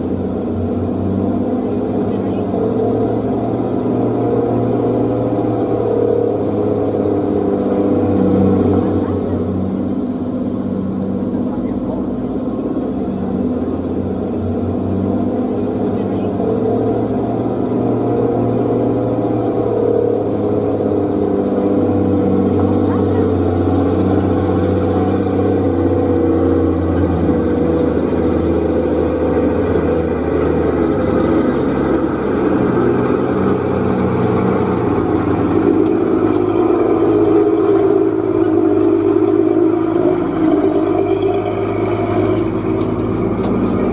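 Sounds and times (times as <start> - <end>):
truck engine running under load: 0.0 - 43.9.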